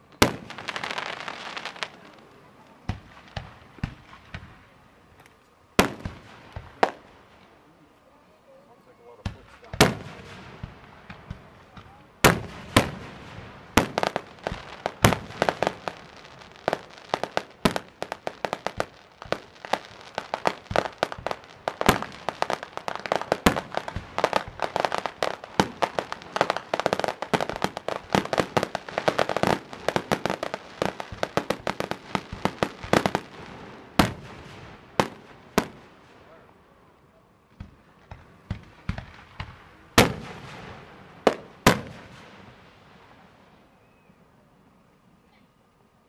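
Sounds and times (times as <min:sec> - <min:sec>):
firework booms: 0:00.0 - 0:04.8, 0:05.8 - 0:07.6, 0:09.2 - 0:36.3, 0:37.5 - 0:43.6
firework crackling: 0:00.0 - 0:43.7.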